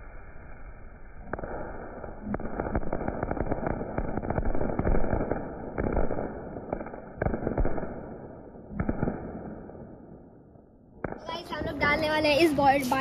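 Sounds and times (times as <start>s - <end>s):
firecrackers cracking: 1.2s - 9.8s, 11.0s - 13.0s.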